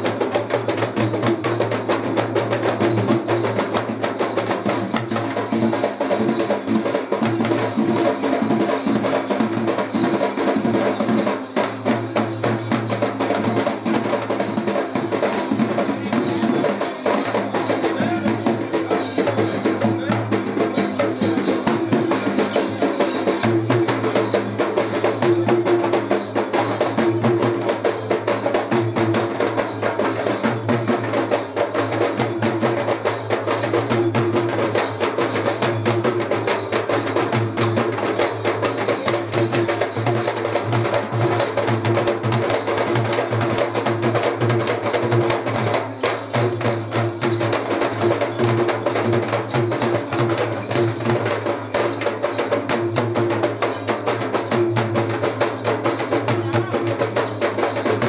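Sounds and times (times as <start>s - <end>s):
group of drums playing fast: 0.0s - 58.0s.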